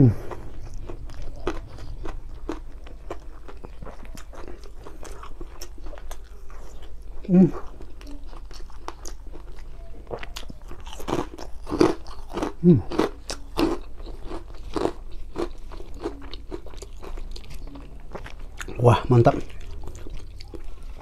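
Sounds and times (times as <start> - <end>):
open-mouthed chewing: 0.0 - 21.0.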